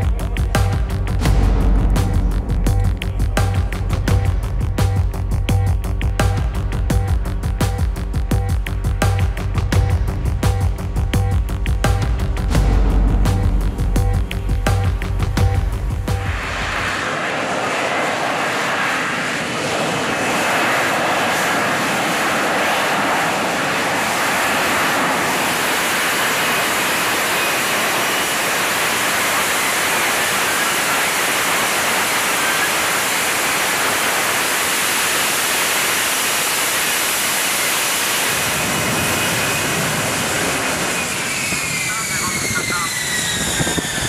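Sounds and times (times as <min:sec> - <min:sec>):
loud jet engine roar: 0:00.0 - 0:44.0.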